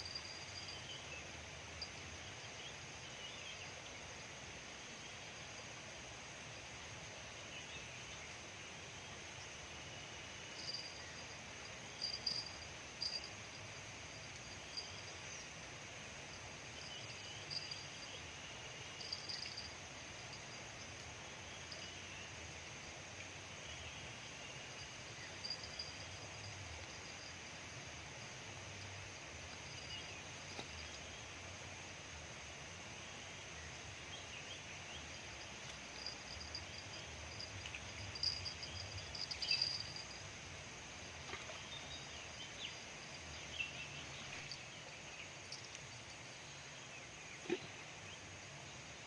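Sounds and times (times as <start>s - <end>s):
steady background hiss: 0.0s - 49.0s.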